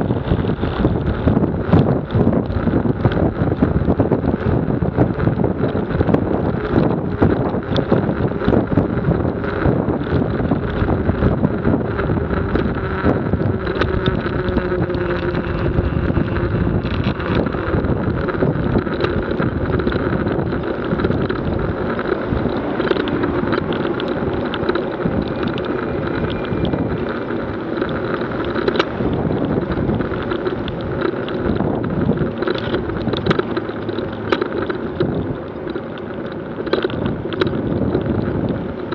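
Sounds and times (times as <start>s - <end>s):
road and engine noise: 0.0s - 38.9s
wind rushing over microphone: 0.0s - 38.9s.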